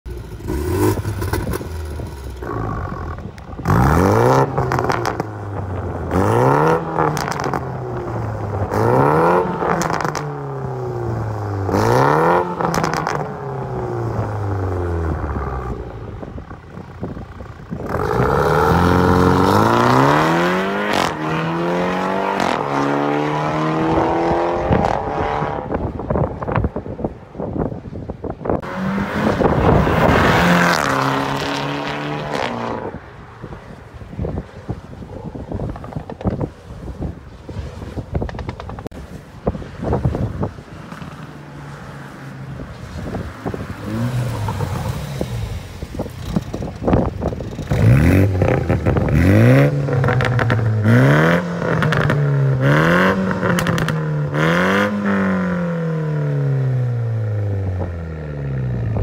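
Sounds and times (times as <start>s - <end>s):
car engine idling and revving: 0.1s - 37.0s, 38.2s - 59.0s.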